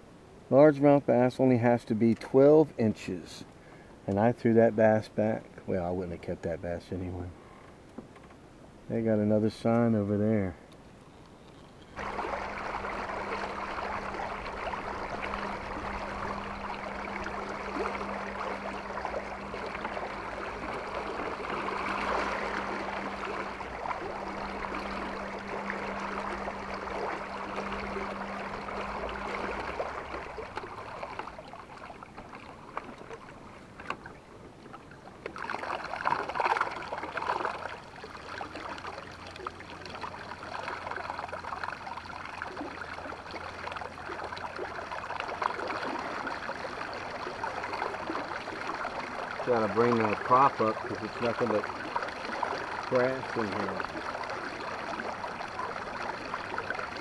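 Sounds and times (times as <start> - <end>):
electric boat motor humming: 11.3 - 57.0
water lapping against metal hull: 11.4 - 57.0.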